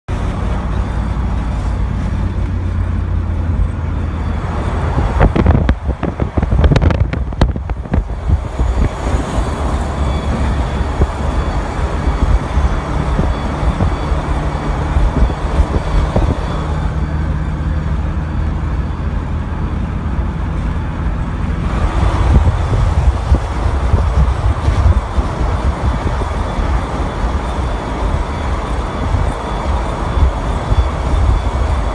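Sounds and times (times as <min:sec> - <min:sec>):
car engine and road rumble: 0:00.0 - 0:31.9
high-pitched brake squeal: 0:00.6 - 0:06.5, 0:08.0 - 0:19.2, 0:21.7 - 0:31.9.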